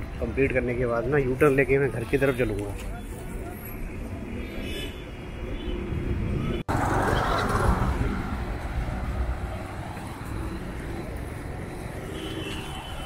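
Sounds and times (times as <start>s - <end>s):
low road rumble: 0.0s - 13.0s
street traffic: 0.0s - 13.0s.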